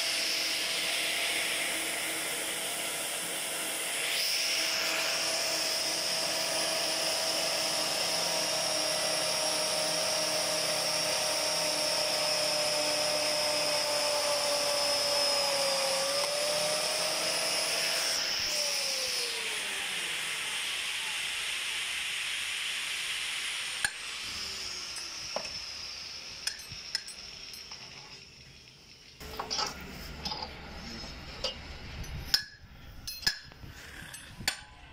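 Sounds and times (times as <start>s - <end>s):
pipe threading machine whine: 0.0s - 34.9s.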